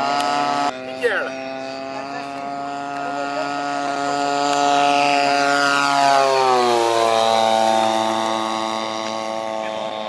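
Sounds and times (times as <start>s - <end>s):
model plane motor and propeller: 0.0s - 10.0s.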